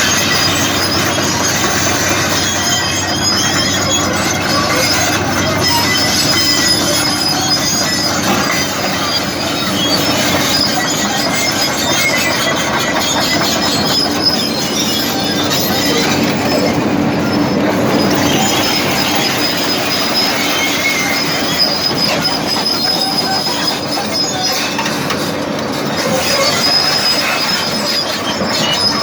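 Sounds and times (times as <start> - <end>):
excavator running: 0.0 - 29.0
high-pitched metallic squeals: 0.0 - 29.0.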